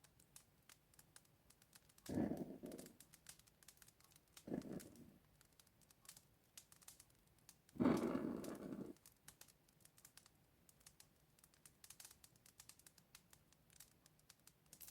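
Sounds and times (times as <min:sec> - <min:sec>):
faint crackles and clicks: 0:00.0 - 0:14.9.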